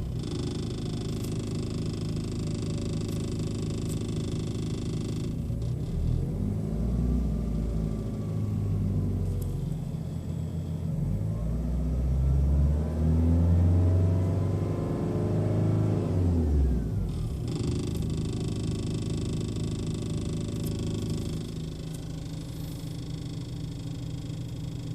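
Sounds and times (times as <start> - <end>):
diesel engine idling and revving: 0.0 - 24.9.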